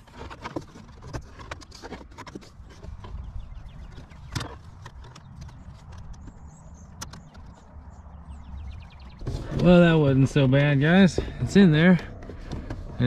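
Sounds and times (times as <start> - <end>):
handling rumble: 0.0 - 13.0.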